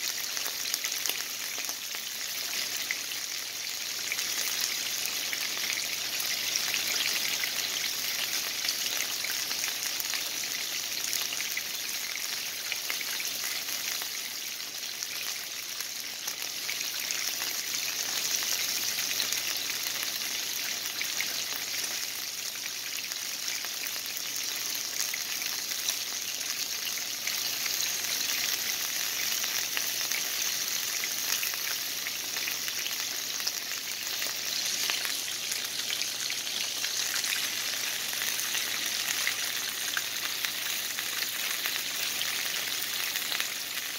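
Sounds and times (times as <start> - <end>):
pork chops sizzling in oil: 0.0 - 43.9.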